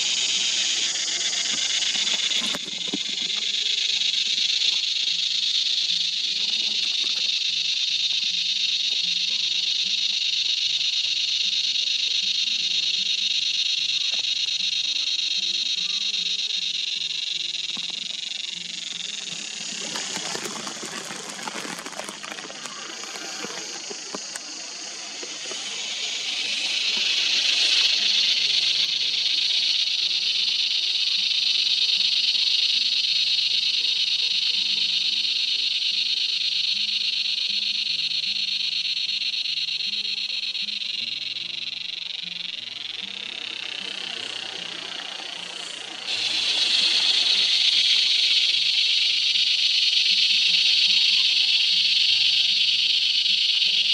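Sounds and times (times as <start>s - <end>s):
cicada buzzing: 0.0s - 53.9s.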